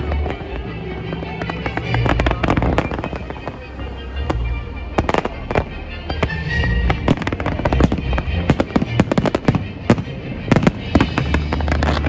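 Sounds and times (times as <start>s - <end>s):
fireworks bangs and crackling: 0.0s - 12.0s
music with steady bass: 0.0s - 12.0s.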